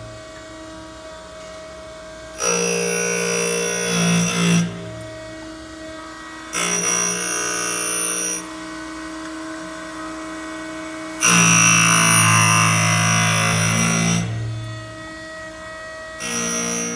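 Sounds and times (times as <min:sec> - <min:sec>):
grinder wheel humming: 0:00.0 - 0:16.9
high-pitched grinding of steel: 0:00.0 - 0:16.9.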